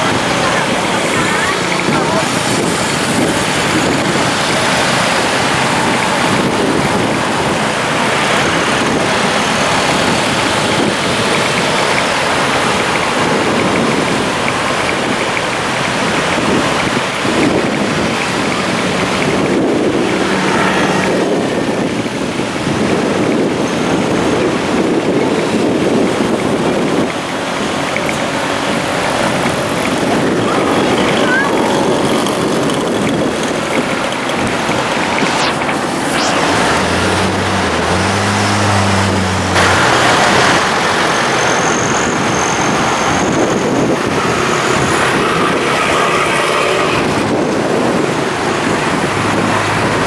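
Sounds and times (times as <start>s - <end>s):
road traffic: 0.0s - 50.0s
wind buffeting microphone: 0.0s - 50.0s.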